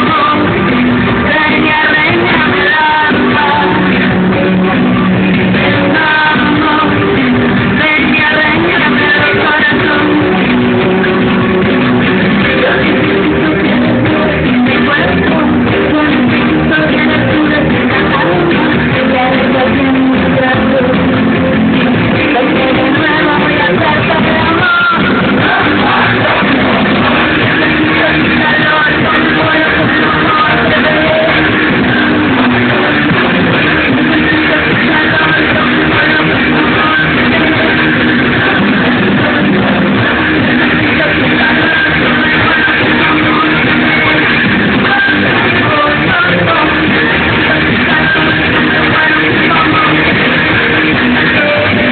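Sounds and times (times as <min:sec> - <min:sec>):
drums: 0:00.0 - 0:51.9
electric guitar: 0:00.0 - 0:51.9
live rock band: 0:00.0 - 0:51.9.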